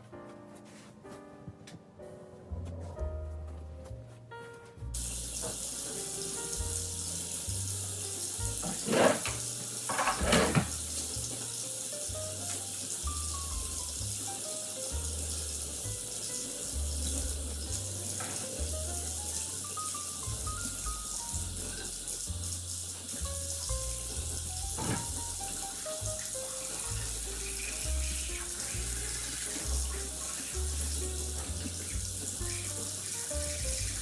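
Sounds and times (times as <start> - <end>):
background music with bass: 2.0 - 8.8, 10.6 - 34.0
water hissing: 5.0 - 34.0.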